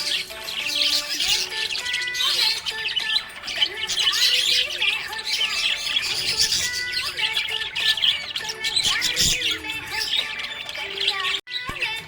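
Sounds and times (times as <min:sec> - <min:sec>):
budgerigars chirping: 0:00.0 - 0:11.7.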